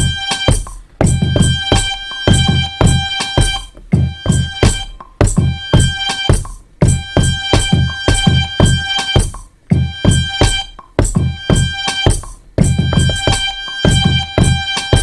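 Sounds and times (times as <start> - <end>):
drum machine kicks and hits: 0.0 - 15.0
sustained pitched sample: 0.0 - 15.0.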